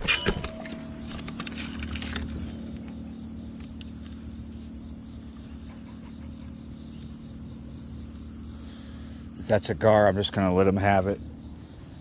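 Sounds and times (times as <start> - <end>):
low steady hum: 0.0 - 12.0
night insects trilling: 0.0 - 12.0.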